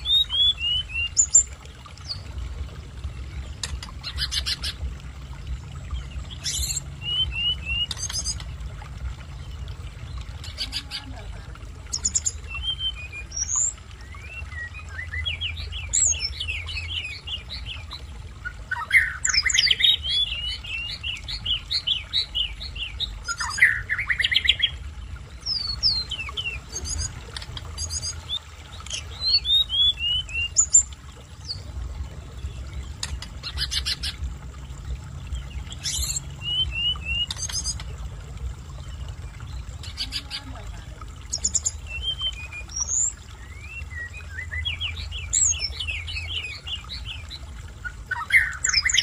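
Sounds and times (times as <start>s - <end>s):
songbird chirping and trilling: 0.0s - 2.4s, 3.0s - 49.0s.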